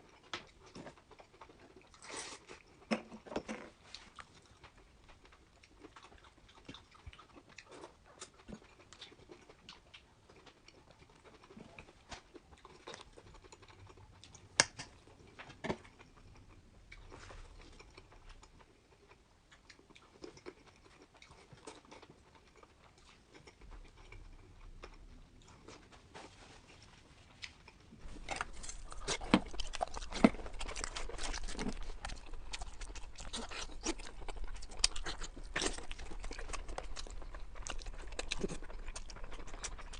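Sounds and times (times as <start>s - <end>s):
chewing and biting crunches: 0.0s - 25.9s, 27.4s - 39.9s.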